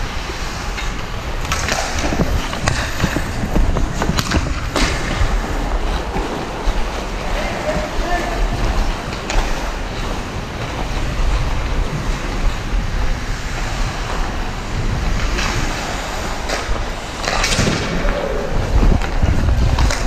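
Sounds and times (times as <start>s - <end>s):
skate blades scraping ice: 0.0s - 20.0s
wind noise on microphone: 0.0s - 20.0s.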